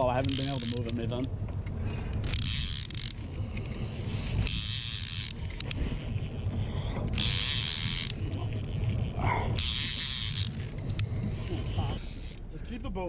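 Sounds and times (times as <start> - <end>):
fishing reel whirring: 0.0 - 1.3, 2.2 - 12.4
boat engine rumble: 0.0 - 13.0.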